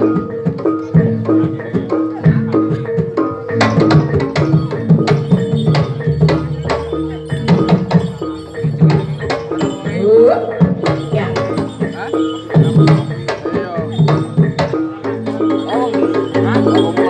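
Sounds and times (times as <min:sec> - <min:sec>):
hand drum strokes: 0:00.0 - 0:17.0
ringing metallophone tones: 0:00.0 - 0:17.0.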